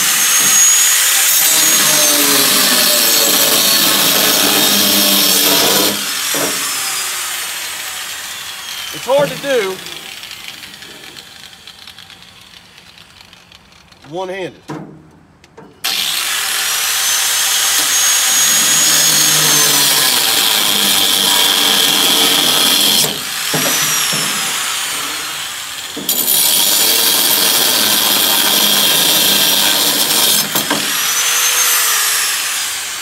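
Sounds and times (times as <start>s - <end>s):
angle grinder cutting metal: 0.0s - 14.2s, 15.8s - 33.0s.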